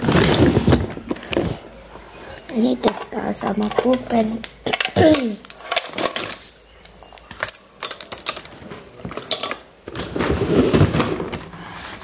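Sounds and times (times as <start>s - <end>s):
small plastic items clattering: 0.0s - 1.6s, 2.5s - 11.5s.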